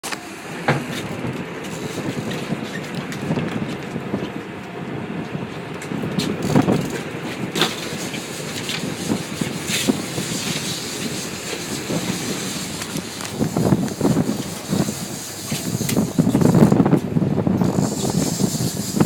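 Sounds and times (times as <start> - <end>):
boat engine rumble: 0.0 - 19.0
wind on microphone: 0.2 - 19.0.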